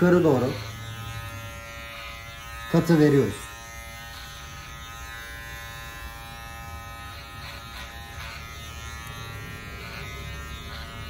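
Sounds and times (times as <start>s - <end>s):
electric hair clipper buzzing: 0.0s - 11.0s
clipper blade rasping through hair: 0.1s - 11.0s.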